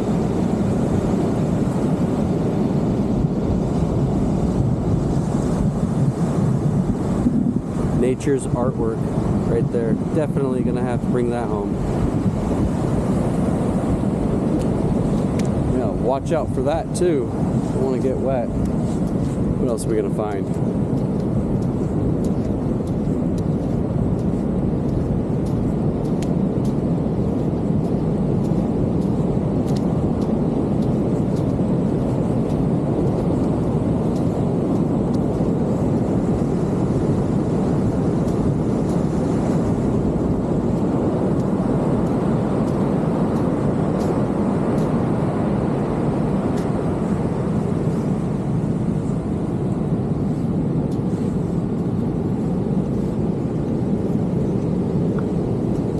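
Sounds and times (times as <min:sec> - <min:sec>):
ocean surf breaking: 0:00.0 - 0:55.9.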